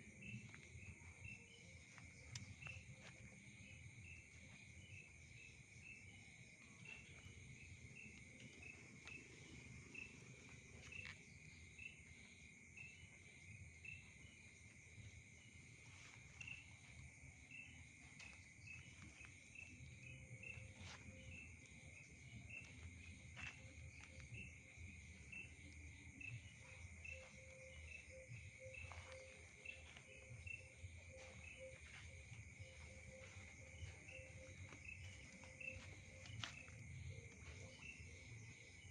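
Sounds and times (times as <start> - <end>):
insect chorus trilling: 0.0 - 38.9
low pulsing insect call: 0.0 - 38.9.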